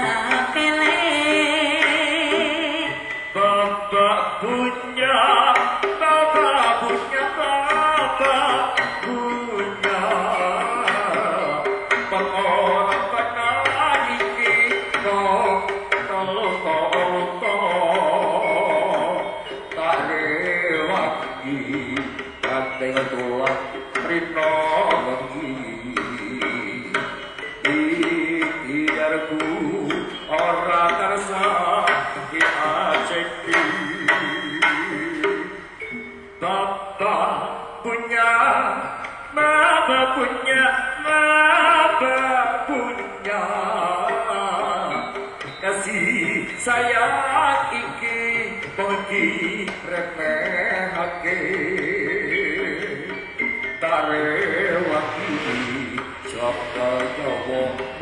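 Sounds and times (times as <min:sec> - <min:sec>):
drum and metal percussion: 0:00.0 - 0:36.5, 0:39.0 - 0:58.0
wavering melodic line: 0:00.0 - 0:58.0.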